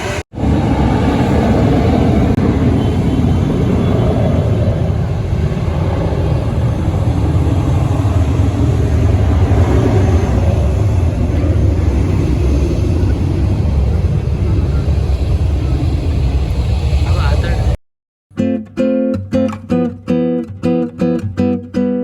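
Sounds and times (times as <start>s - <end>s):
jet airliner engines rumbling: 0.0s - 17.8s.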